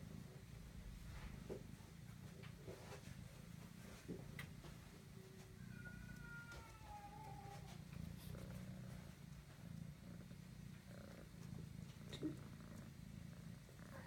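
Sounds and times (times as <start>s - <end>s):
kitten purring: 0.0s - 14.0s.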